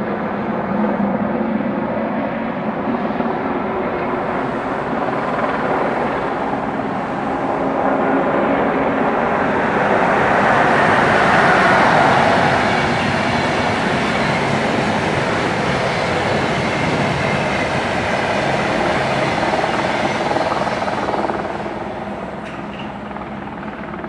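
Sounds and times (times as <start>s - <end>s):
helicopter turbine and rotor noise: 0.0s - 24.0s.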